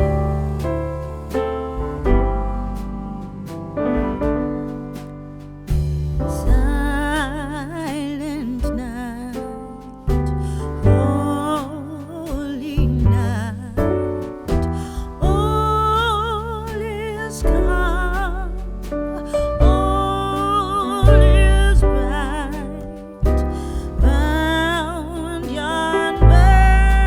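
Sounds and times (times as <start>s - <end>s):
deep bass line: 0.0s - 27.0s.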